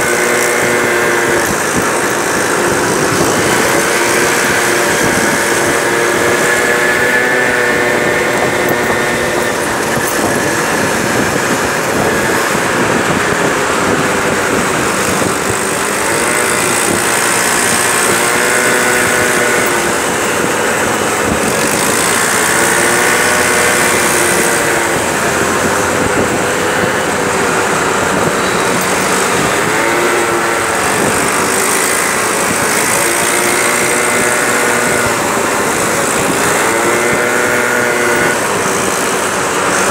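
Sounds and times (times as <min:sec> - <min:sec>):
scooter engine revving in traffic: 0:00.0 - 0:39.9
steady noisy rush: 0:00.0 - 0:39.9.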